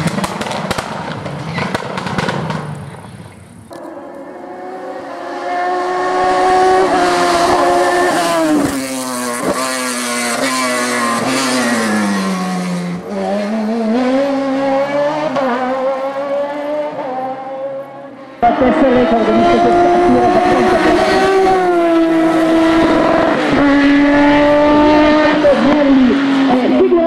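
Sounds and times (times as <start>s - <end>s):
race car engine at high revs: 3.7s - 27.0s.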